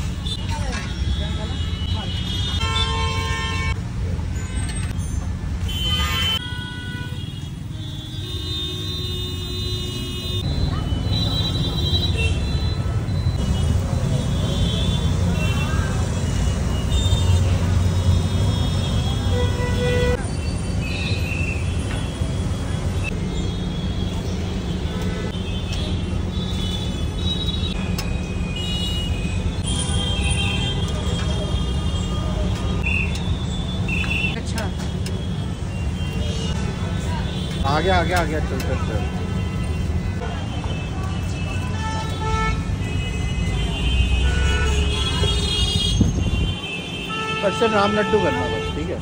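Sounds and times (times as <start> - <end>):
vehicle horns: 0.0 - 3.8, 5.6 - 21.8, 22.4 - 49.0
traffic rumble: 0.0 - 49.0.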